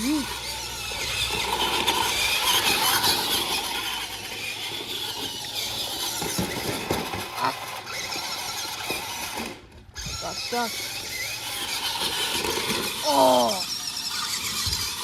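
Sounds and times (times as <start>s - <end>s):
toy truck motor whining: 0.0s - 15.0s
tyres scrabbling and squealing: 0.0s - 15.0s.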